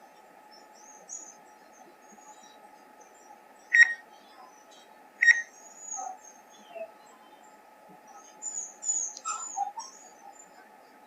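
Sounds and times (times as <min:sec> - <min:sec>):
birds chirping: 0:00.0 - 0:11.0
faint steady background hiss: 0:00.0 - 0:11.0.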